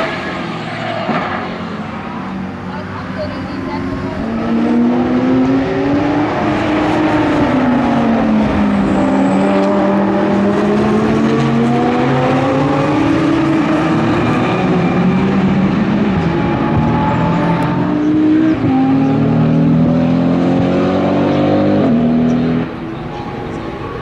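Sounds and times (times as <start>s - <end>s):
race cars passing at speed: 0.0s - 24.0s.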